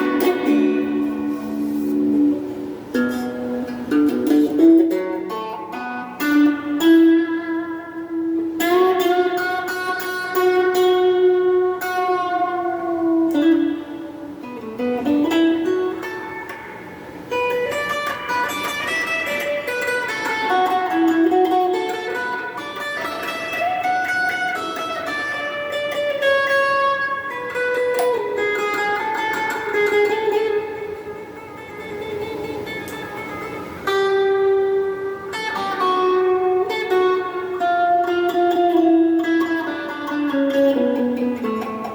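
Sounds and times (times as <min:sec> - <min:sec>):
electric guitar slow melody: 0:00.0 - 0:41.9.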